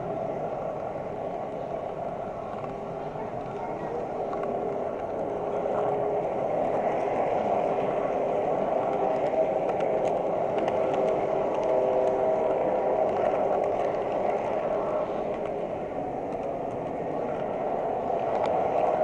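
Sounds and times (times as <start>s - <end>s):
wheels ticking on track: 0.0s - 19.0s.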